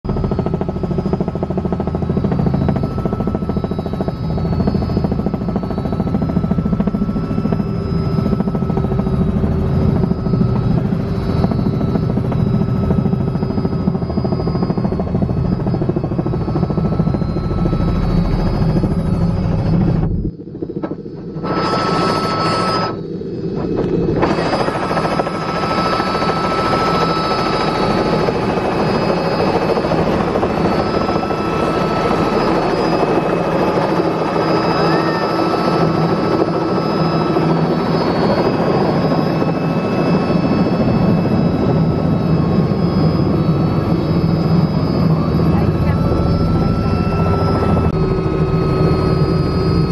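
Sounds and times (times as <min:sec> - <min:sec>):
helicopter rotor and engine noise: 0:00.0 - 0:49.9
high turbine whine: 0:00.1 - 0:49.9.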